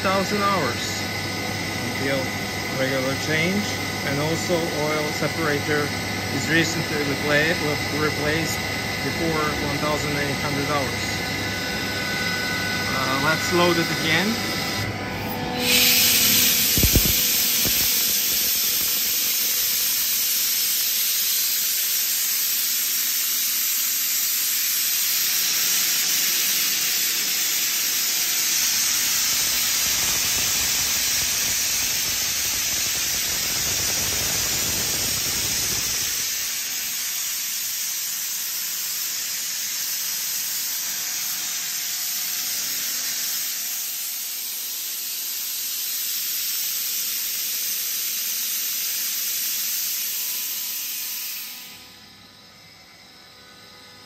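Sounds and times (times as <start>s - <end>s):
air compressor hissing: 0.0s - 52.2s.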